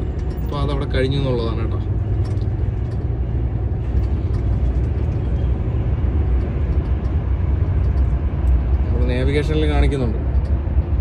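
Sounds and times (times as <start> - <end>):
truck engine rumble: 0.0 - 11.0
tyre and road noise: 0.0 - 11.0.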